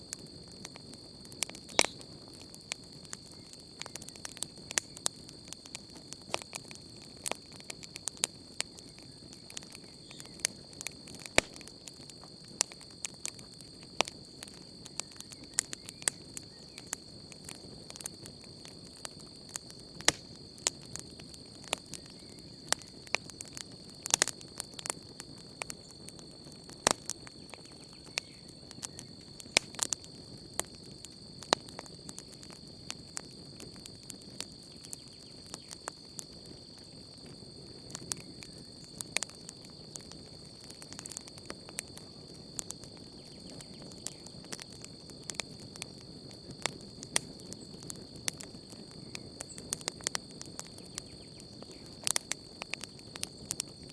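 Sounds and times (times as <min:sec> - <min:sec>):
campfire crackling and popping: 0:00.0 - 0:53.9
night insects chorus: 0:00.0 - 0:53.9.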